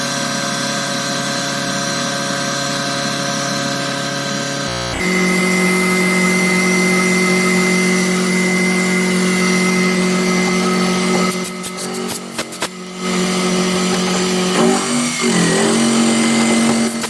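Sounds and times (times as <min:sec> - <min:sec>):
milling machine motor whine: 0:00.0 - 0:17.0.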